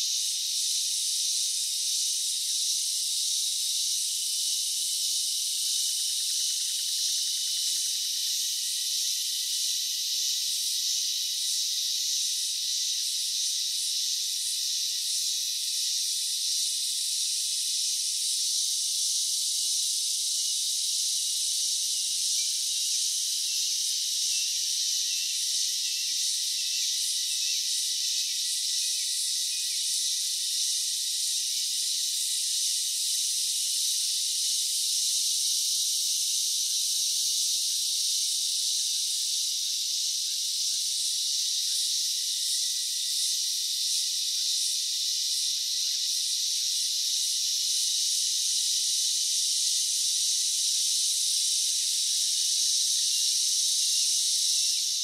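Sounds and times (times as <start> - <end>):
high-pitched hiss: 0.0 - 55.0.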